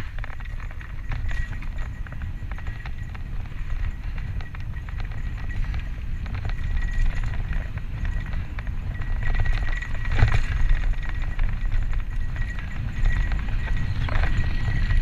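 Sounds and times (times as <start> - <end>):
bike and camera rattling: 0.0 - 15.0
bike tyres rolling over dirt: 0.0 - 15.0
wind buffeting microphone: 0.0 - 15.0.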